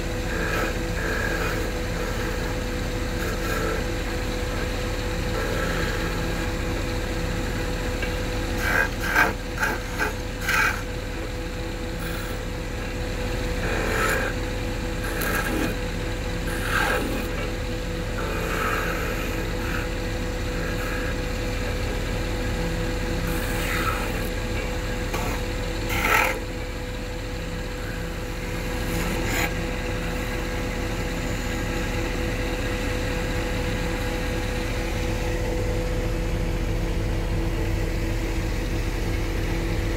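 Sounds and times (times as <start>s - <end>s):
tool scraping spinning wood: 0.0s - 36.4s
wood lathe humming: 0.0s - 39.9s.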